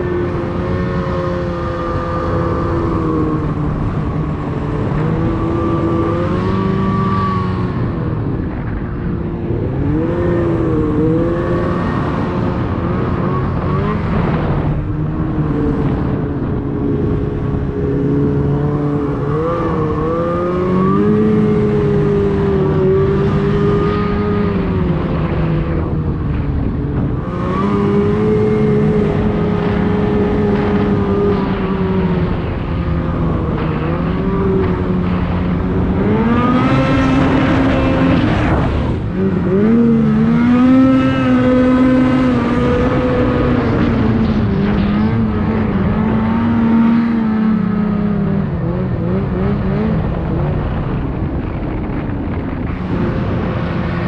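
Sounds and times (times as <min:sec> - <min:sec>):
snowmobile engine revving: 0:00.0 - 0:08.7, 0:09.4 - 0:54.0.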